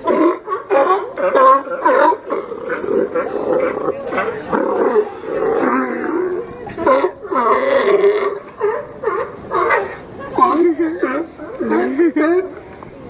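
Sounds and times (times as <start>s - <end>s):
sea lions barking and growling: 0.0s - 13.0s.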